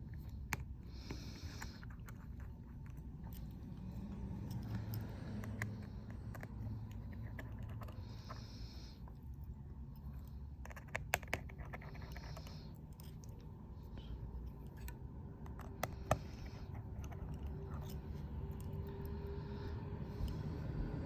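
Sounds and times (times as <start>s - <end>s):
small tools clicking and scraping: 0.0s - 20.6s
low steady hum: 0.0s - 21.0s.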